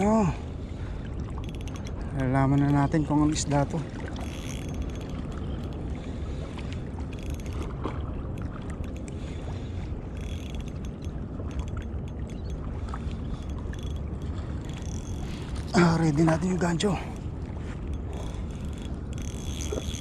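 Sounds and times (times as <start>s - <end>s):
wind and water on microphone: 0.0s - 20.0s
fishing reel whirring and clicking: 1.3s - 20.0s.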